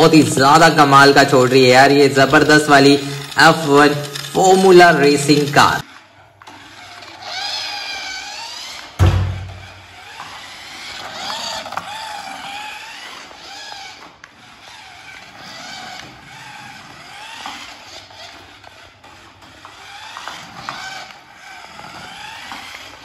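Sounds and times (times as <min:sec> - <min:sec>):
synthetic engine revs and tyre squeals: 0:00.0 - 0:23.0.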